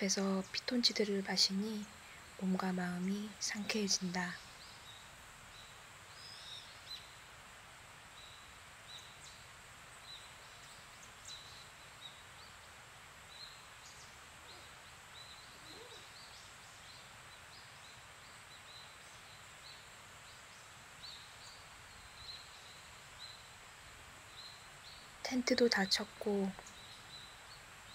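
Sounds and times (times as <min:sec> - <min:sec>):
small birds chirping: 0:00.0 - 0:07.4, 0:08.0 - 0:27.9
faint steady hiss: 0:00.0 - 0:27.9.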